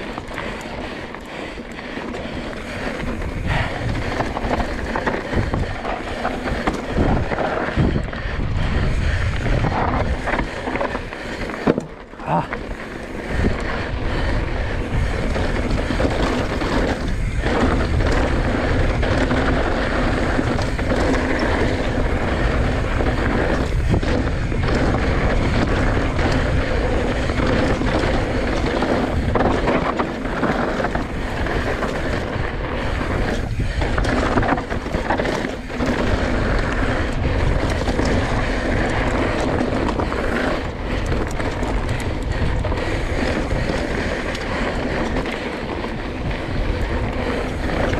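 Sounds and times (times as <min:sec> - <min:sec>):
bike knocks and rattles: 0:00.0 - 0:47.9
tyres grinding over dirt and rock: 0:00.0 - 0:47.9
wind rushing over microphone: 0:00.0 - 0:47.9.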